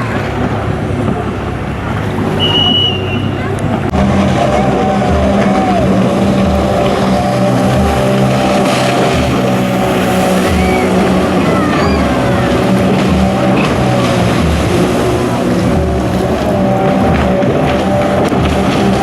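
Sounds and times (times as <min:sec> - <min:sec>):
jet ski engine running: 0:00.0 - 0:19.0.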